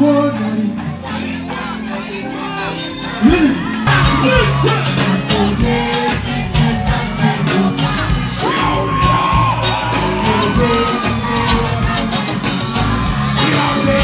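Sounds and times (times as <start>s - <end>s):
live band playing upbeat song: 0.0s - 14.0s
man singing into microphone: 0.0s - 14.0s
crowd shouting: 1.1s - 14.0s.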